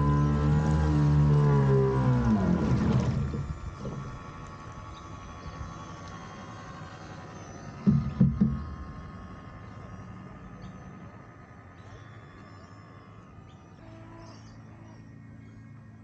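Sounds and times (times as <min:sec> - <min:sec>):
model boat motor whining: 0:00.0 - 0:16.0.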